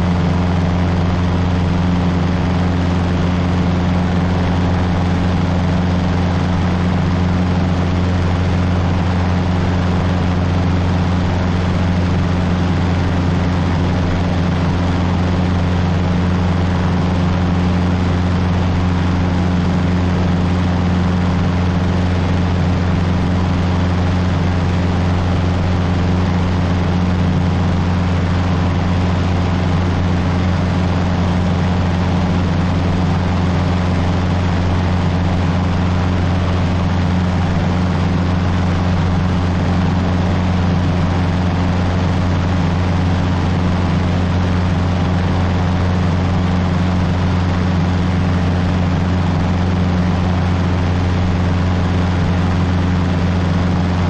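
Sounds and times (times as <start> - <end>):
airplane engine droning in flight: 0.0 - 54.0.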